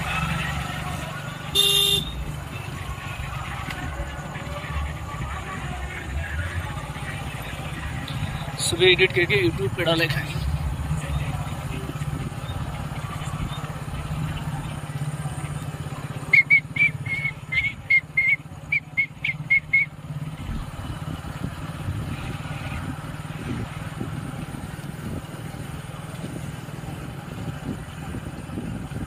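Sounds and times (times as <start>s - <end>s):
vehicle humming: 0.0s - 29.0s.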